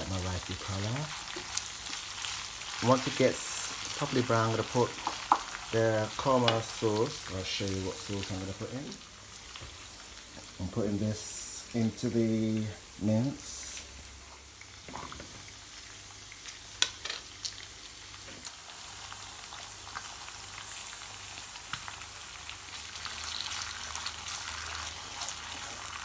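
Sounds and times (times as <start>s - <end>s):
meat sizzling in a pot: 0.0s - 26.0s.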